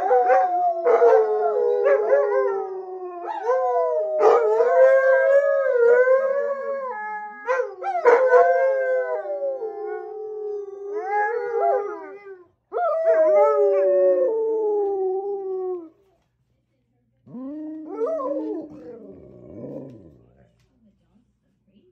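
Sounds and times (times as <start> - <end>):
dogs howling: 0.0 - 15.9, 17.3 - 20.1.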